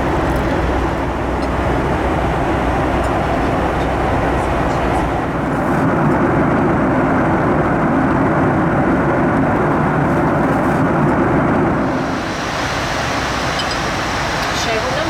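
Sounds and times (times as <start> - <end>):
airliner roar in flight: 0.0 - 15.0.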